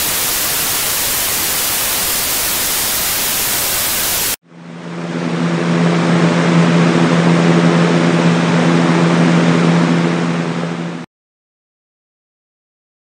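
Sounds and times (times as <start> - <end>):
electric fan whirring: 0.0 - 11.0.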